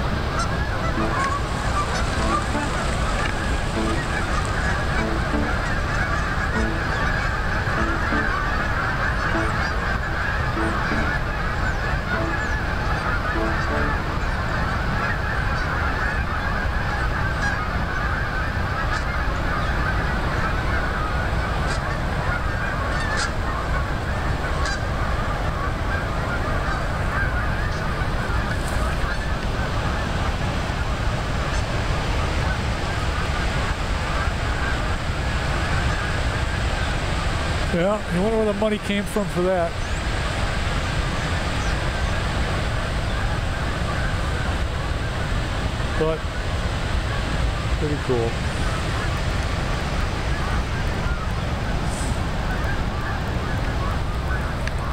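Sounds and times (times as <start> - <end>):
geese honking: 0.0 - 54.9.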